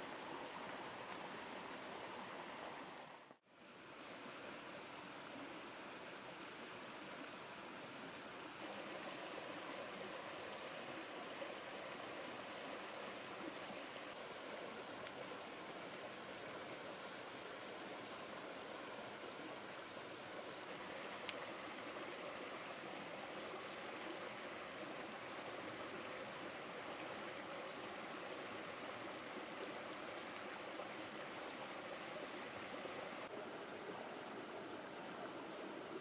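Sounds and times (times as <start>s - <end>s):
stream rushing over stones: 0.0s - 36.0s.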